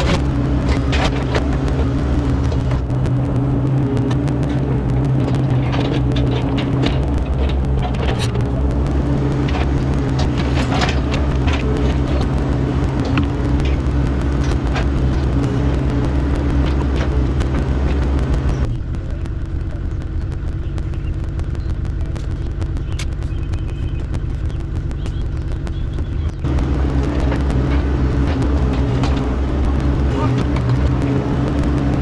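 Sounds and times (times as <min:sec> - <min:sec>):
excavator engine running: 0:00.0 - 0:32.0.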